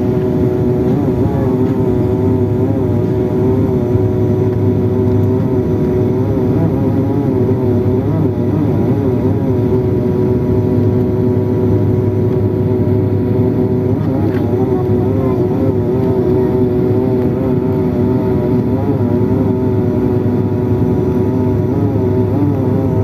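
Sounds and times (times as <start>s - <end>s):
motor engine humming: 0.0s - 23.0s.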